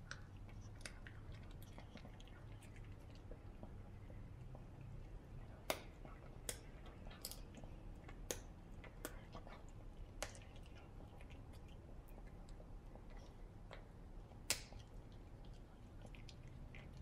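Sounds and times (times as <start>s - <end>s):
dog gnawing a chew stick: 0.0s - 17.0s.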